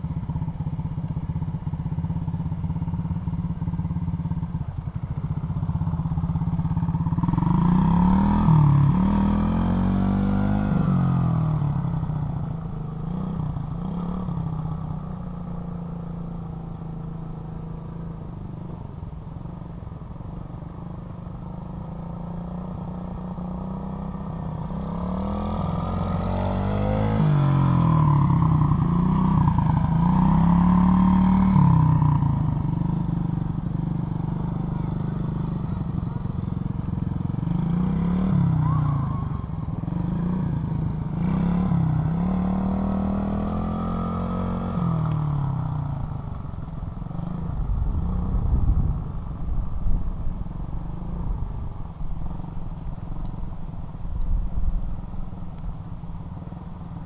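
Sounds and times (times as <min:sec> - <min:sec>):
motorbike engine passing: 0:00.0 - 0:18.7, 0:21.5 - 0:57.0.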